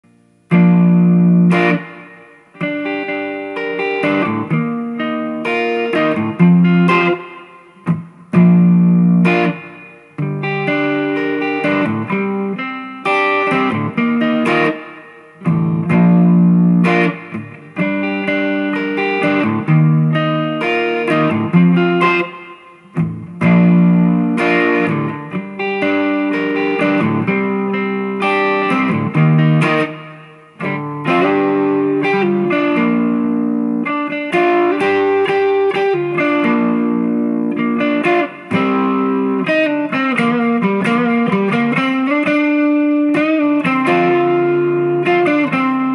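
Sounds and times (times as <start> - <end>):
electric guitar chords ringing: 0.0 - 45.9.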